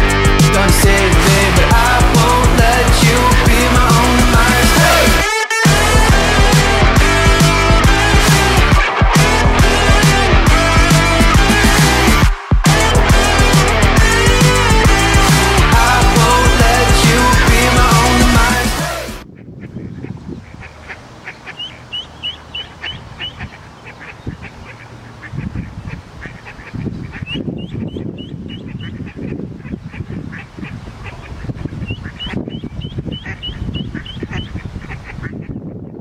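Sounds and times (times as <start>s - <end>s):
ducks quacking: 0.9s - 35.9s.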